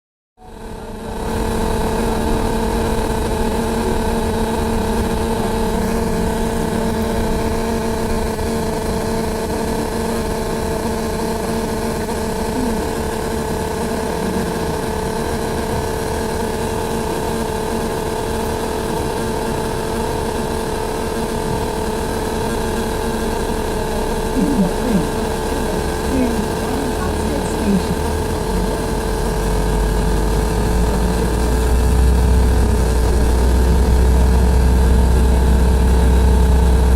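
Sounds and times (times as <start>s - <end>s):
bus engine droning hum: 0.4s - 36.9s.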